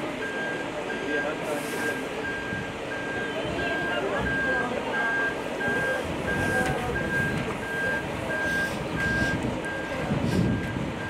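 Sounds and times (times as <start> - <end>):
reversing alarm beeping: 0.2 - 11.0.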